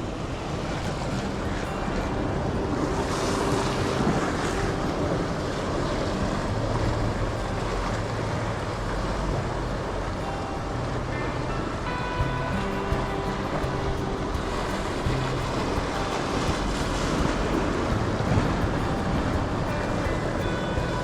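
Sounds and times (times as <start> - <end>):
surf washing on rocky shore: 0.0 - 21.0
wind buffeting microphone: 0.0 - 21.0.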